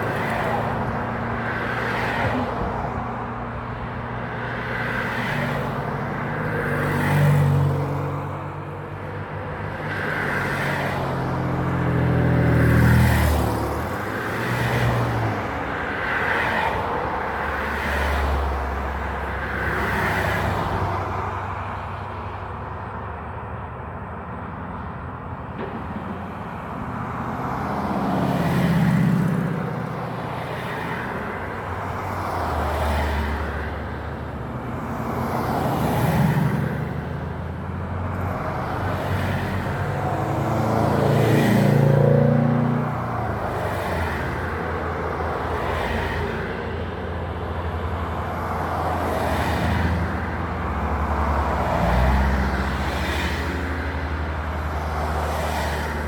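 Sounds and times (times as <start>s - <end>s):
cars and trucks passing: 0.0s - 56.0s.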